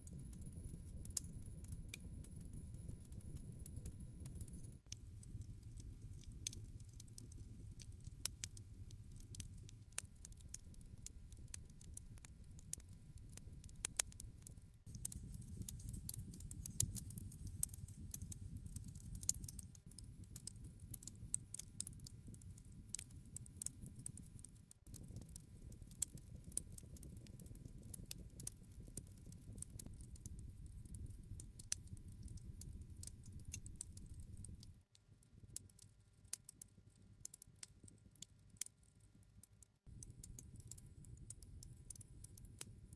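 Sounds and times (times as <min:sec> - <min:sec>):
campfire crackling and popping: 0:03.1 - 0:34.9, 0:39.9 - 0:42.7.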